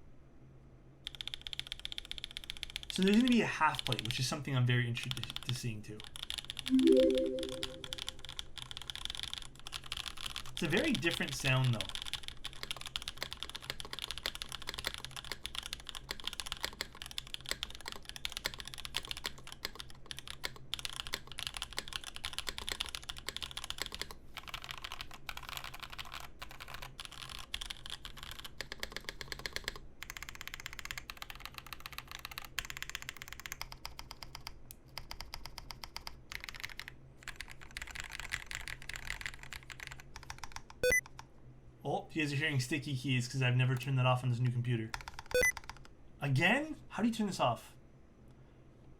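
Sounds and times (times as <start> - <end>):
fast typing on mechanical keyboard: 1.0 - 4.2, 4.8 - 41.3, 44.9 - 45.9.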